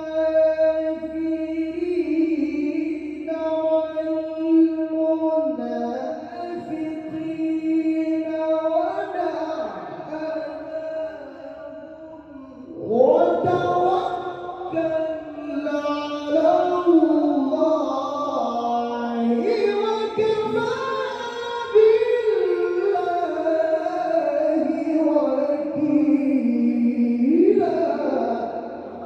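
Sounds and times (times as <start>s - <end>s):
man reciting melodically: 0.0s - 29.0s.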